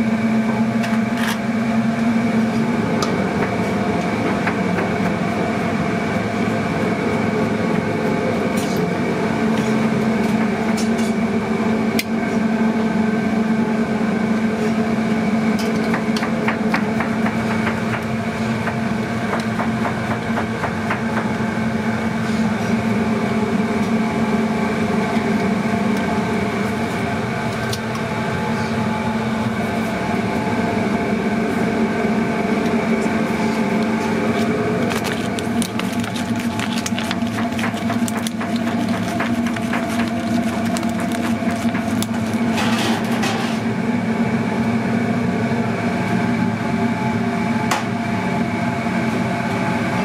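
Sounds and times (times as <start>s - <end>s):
kitchen equipment drone: 0.0s - 50.0s.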